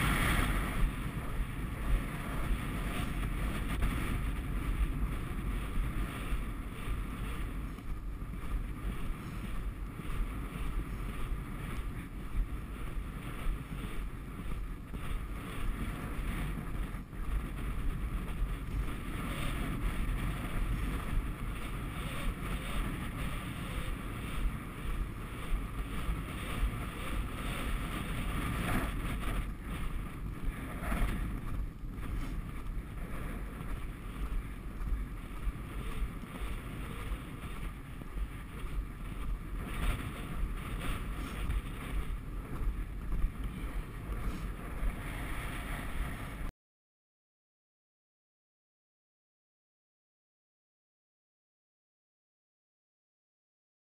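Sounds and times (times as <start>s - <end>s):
wind buffeting microphone: 0.0s - 46.5s.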